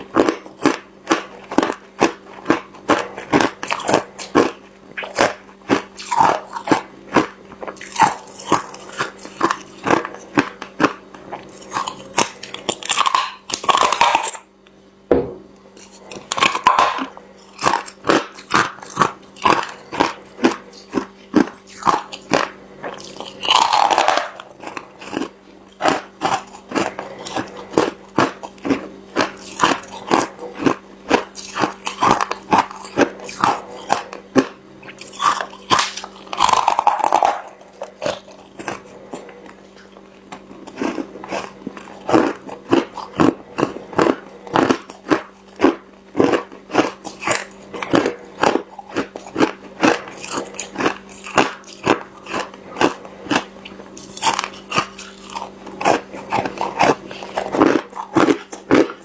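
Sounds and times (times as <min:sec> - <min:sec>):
steady low hum: 0:00.0 - 0:59.0
ice crunching between teeth: 0:00.1 - 0:14.5, 0:15.8 - 0:59.0.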